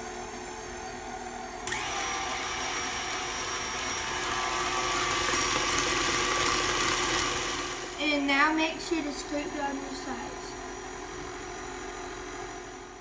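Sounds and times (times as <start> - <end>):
stand mixer motor whining: 0.0 - 8.1, 10.4 - 13.0
beater mixing thick batter: 1.6 - 13.0.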